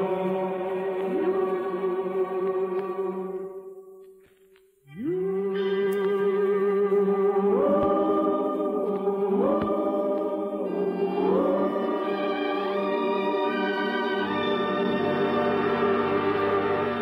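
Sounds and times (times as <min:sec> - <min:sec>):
choir singing held chords: 0:00.0 - 0:04.1, 0:04.9 - 0:17.0.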